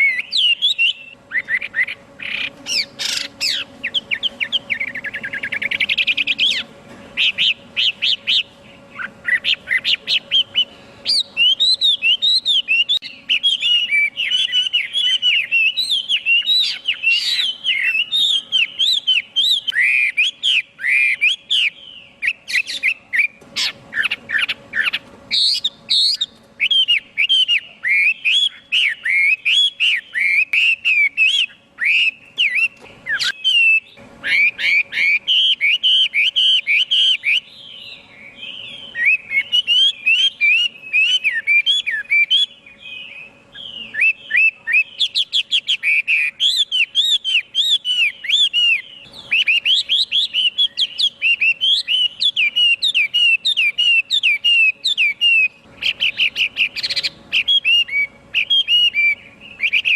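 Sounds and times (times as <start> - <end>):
bird singing whistled phrases: 0.0 - 59.9.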